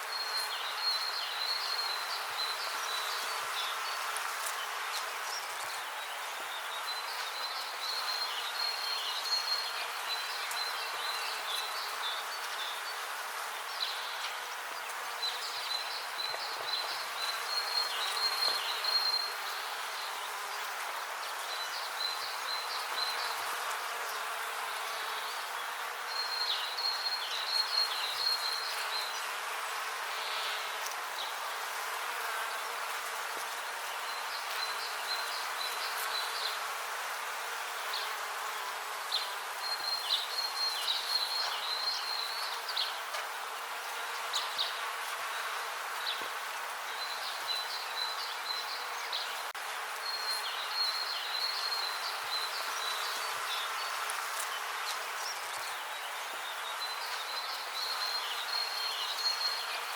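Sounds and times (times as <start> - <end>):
bees buzzing: 0.1 - 59.9.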